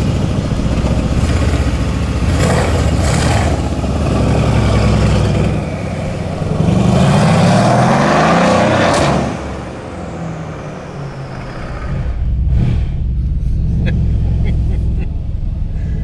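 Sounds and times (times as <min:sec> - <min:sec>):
loud car engine accelerating: 0:00.0 - 0:16.0.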